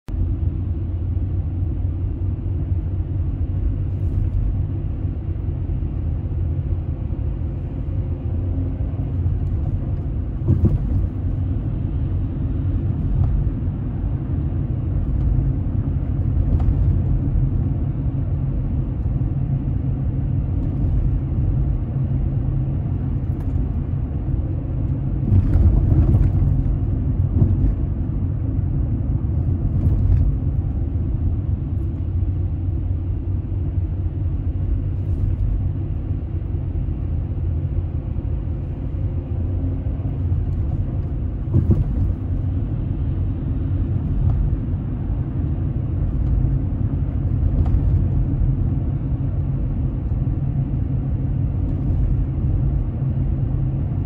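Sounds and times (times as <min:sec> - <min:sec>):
tyres rumbling on road: 0:00.1 - 0:54.0.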